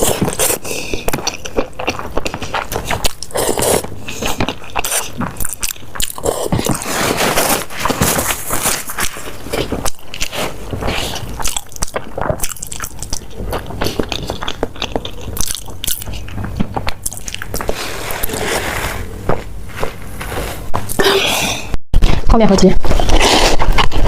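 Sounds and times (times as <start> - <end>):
person chewing and biting: 0.0 - 21.0, 22.9 - 24.0.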